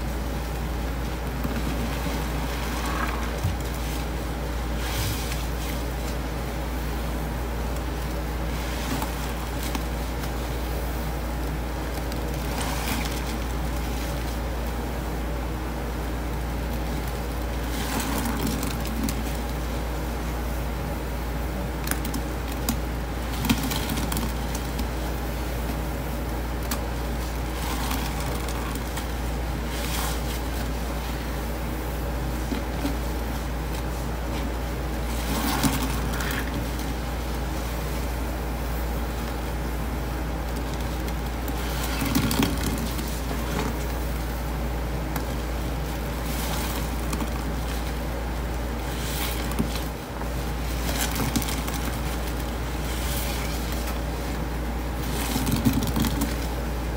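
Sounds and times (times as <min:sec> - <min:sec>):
low background hum: 0:00.0 - 0:56.9.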